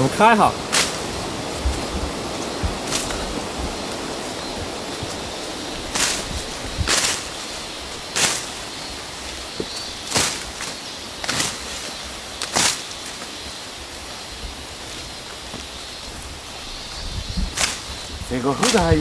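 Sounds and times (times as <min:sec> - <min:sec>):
blade swishing through undergrowth: 0:00.0 - 0:19.0.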